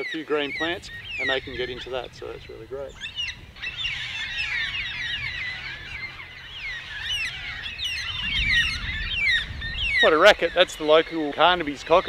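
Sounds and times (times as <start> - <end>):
cockatoos calling: 0.0 - 12.0.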